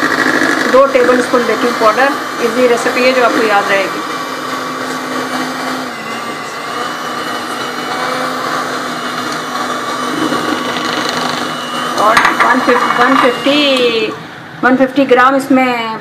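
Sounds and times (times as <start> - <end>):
electric mixer whirring: 0.0 - 15.3.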